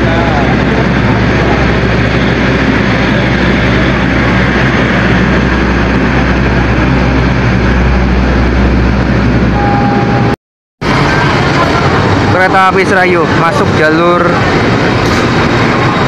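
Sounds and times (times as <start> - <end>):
locomotive engine droning: 0.0 - 16.0.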